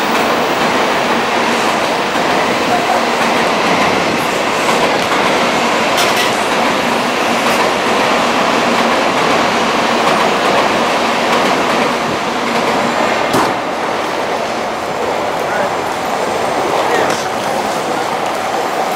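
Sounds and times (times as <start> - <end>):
train wheels on rails: 0.0 - 18.9.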